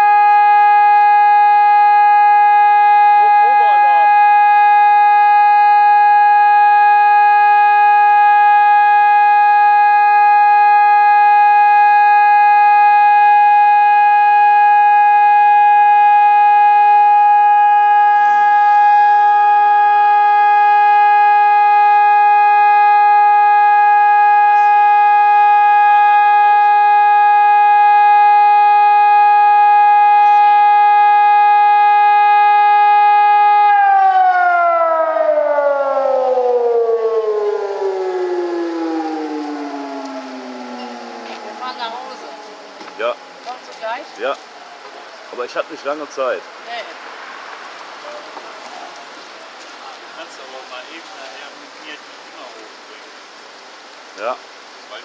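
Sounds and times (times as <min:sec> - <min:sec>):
steady siren tone: 0:00.0 - 0:47.4.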